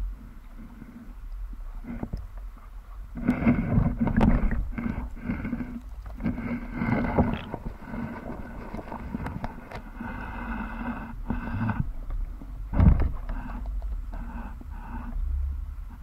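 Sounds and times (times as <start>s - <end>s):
muffled mechanical hum underwater: 0.0s - 16.0s.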